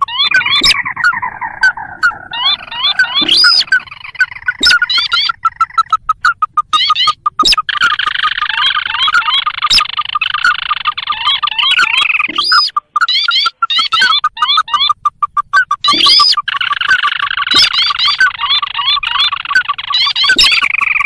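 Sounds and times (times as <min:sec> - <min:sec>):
recorded bird calls: 0:00.0 - 0:21.0.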